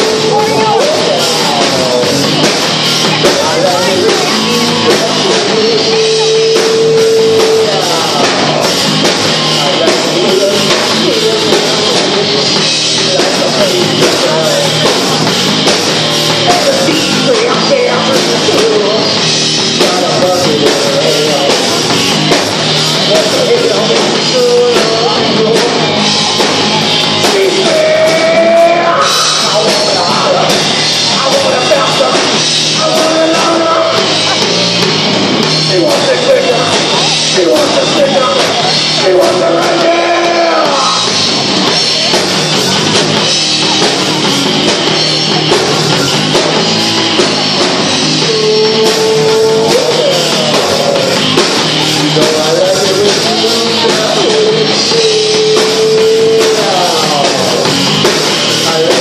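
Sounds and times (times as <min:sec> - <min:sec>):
person singing into microphone: 0:00.0 - 0:15.7, 0:16.3 - 0:35.0, 0:35.6 - 0:43.9, 0:47.4 - 0:59.0
bass guitar: 0:00.0 - 0:59.0
drum kit: 0:00.0 - 0:59.0
electric guitar: 0:00.0 - 0:59.0.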